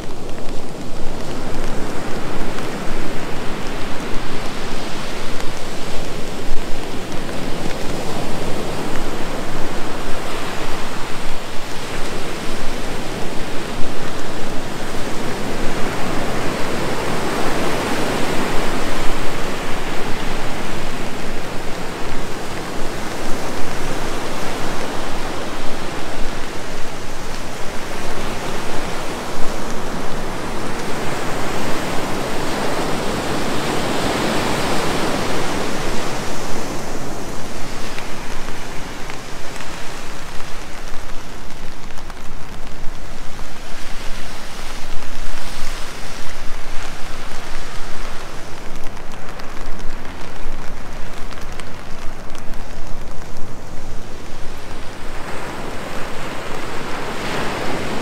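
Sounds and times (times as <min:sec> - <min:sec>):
ocean surf breaking: 0:00.0 - 0:58.0
rain falling: 0:00.0 - 0:58.0.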